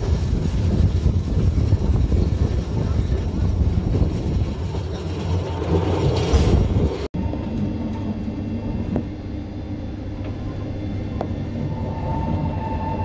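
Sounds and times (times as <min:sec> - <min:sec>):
train rumble inside carriage: 0:00.0 - 0:13.0.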